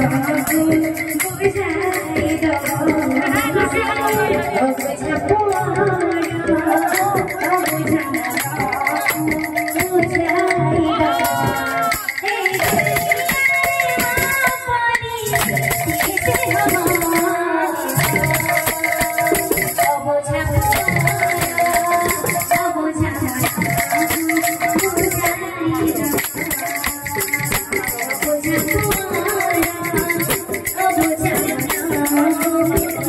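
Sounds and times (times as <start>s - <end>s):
rattles shaking: 0.0s - 33.0s.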